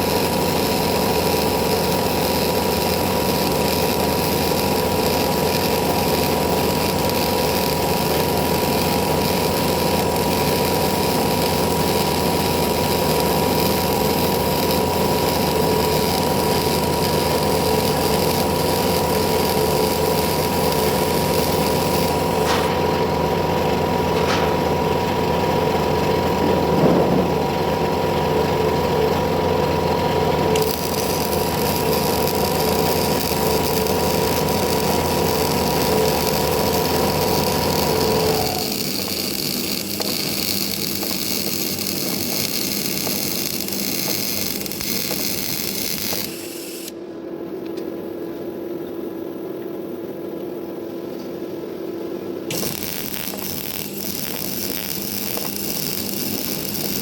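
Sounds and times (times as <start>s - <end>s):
welding arc crackling hiss: 0.0s - 26.6s, 30.4s - 47.0s, 52.5s - 57.0s
constant hum: 0.0s - 57.0s.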